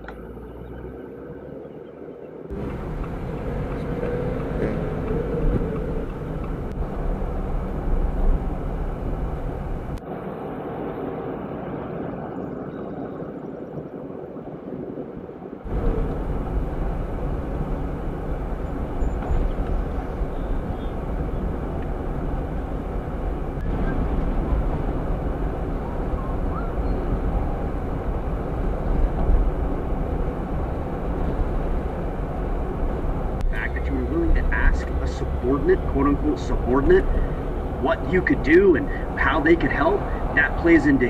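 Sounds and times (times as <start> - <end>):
road and engine rumble: 0.0 - 10.9, 15.6 - 41.0.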